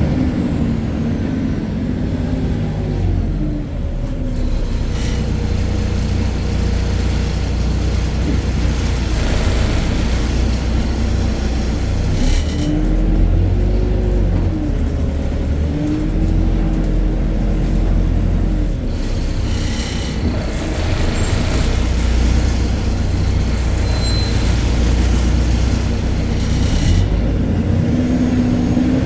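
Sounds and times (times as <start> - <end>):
bus diesel engine rumbling: 0.0 - 29.0.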